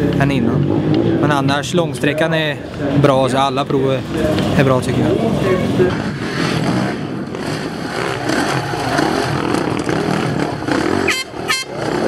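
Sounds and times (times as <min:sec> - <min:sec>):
motorcycle engines revving: 0:00.0 - 0:12.0
engine crackles: 0:02.0 - 0:12.0.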